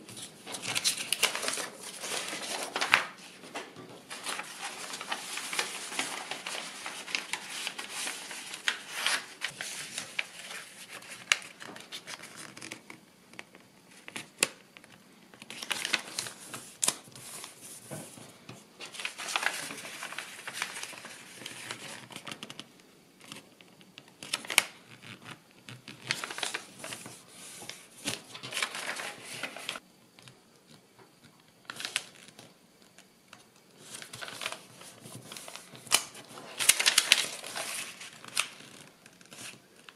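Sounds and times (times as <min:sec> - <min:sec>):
paper rustling and crinkling: 0:00.0 - 0:29.8, 0:31.6 - 0:39.9.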